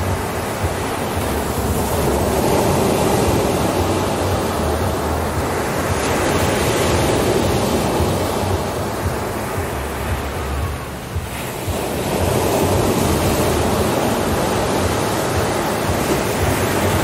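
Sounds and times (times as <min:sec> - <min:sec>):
ocean surf washing up beach: 0:00.0 - 0:17.0.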